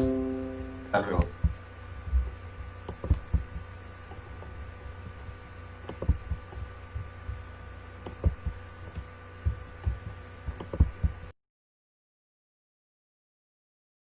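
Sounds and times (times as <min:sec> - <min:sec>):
soft low thumps and knocks: 0:00.0 - 0:11.3
electrical hum with high tone: 0:00.0 - 0:11.4.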